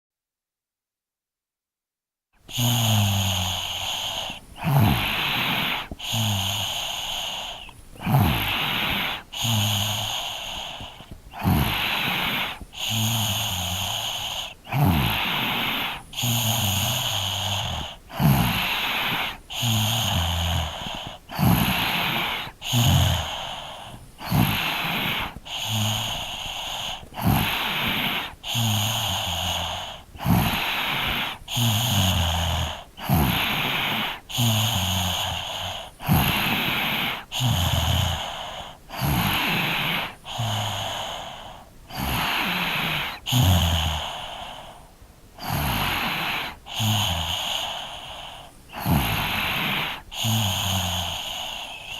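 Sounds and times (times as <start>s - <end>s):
child snoring: 2.5s - 51.9s.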